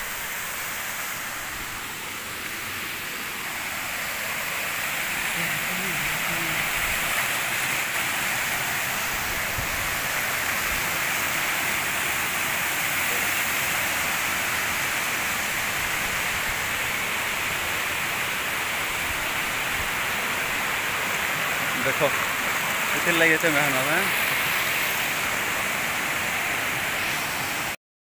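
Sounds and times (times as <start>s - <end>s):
small waterfall rushing: 0.0s - 27.8s.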